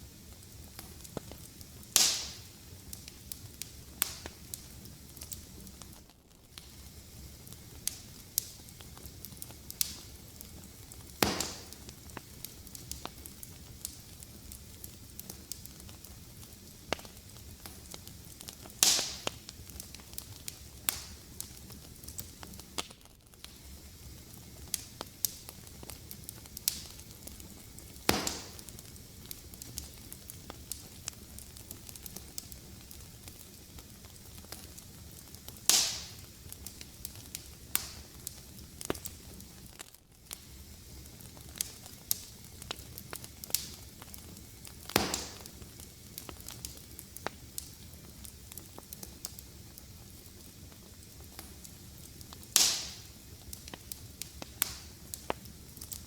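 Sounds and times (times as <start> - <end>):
wood fire crackling: 0.0 - 56.0
fire pops: 0.2 - 56.0.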